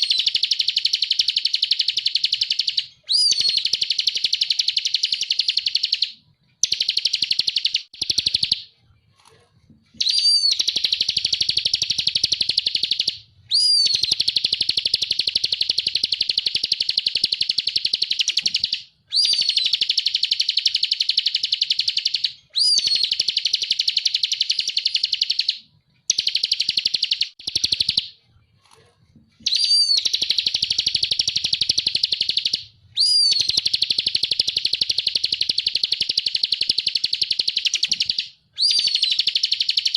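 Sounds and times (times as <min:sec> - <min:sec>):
bird chattering song: 0:00.0 - 0:08.7, 0:10.0 - 0:28.2, 0:29.4 - 0:39.9.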